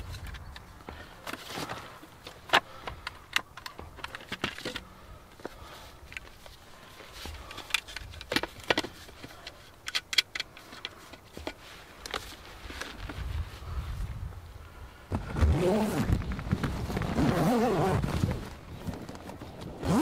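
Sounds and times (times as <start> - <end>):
rustling: 0.0 - 20.0.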